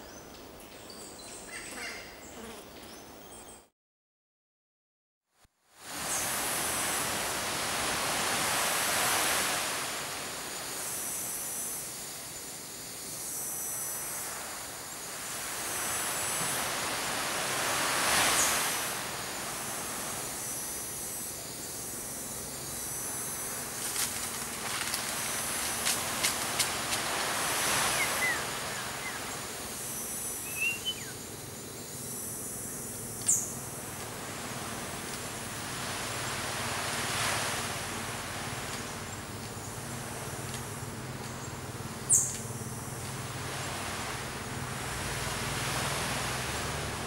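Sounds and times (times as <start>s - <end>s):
insects hissing: 0.0s - 3.5s, 5.8s - 47.0s.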